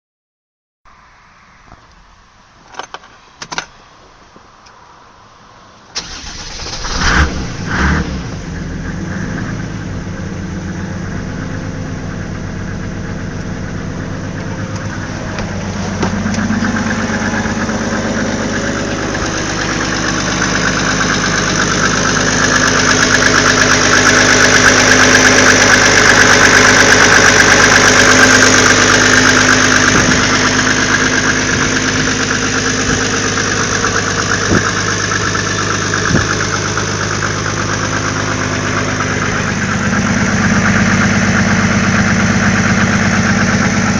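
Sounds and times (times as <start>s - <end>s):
diesel engine idling: 6.0s - 43.9s.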